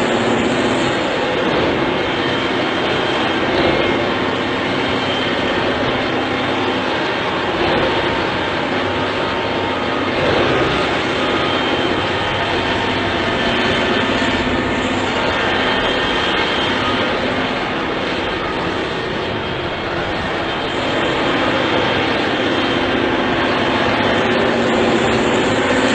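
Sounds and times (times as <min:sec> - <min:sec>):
engine running: 0:00.0 - 0:25.9
loud even noise: 0:00.0 - 0:25.9.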